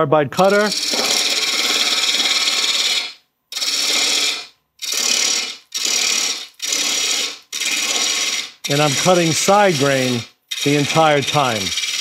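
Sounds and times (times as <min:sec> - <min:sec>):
lathe tool scraping wood: 0:00.4 - 0:12.0.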